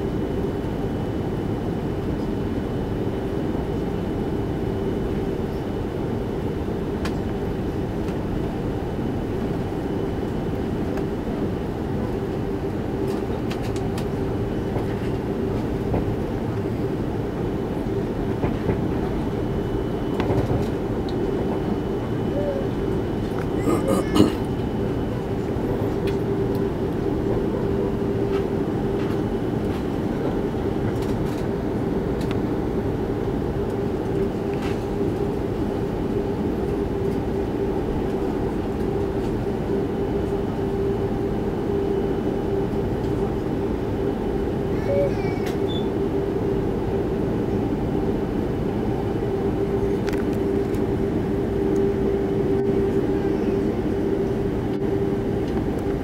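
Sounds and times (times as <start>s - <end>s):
constant cabin hum: 0.0s - 56.0s
jet engines rumbling at low power: 0.0s - 56.0s.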